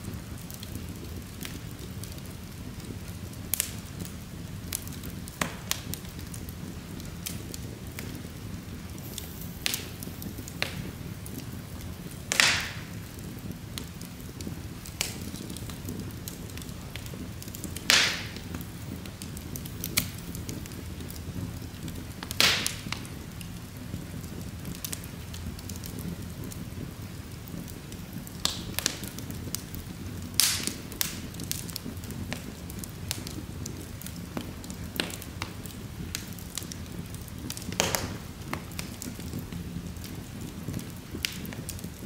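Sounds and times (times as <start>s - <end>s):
loud sharp pops from fire: 0.0s - 42.0s
low rush of fire flames: 0.0s - 42.0s
small crackles of burning wood: 0.0s - 42.0s.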